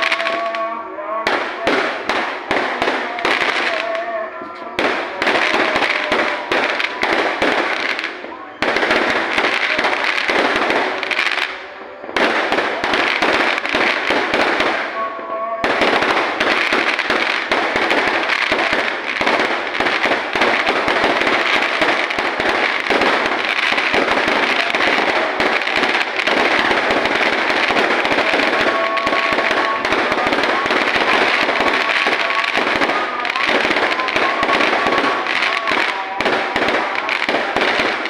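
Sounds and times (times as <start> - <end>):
fireworks and firecrackers banging: 0.0 - 38.0.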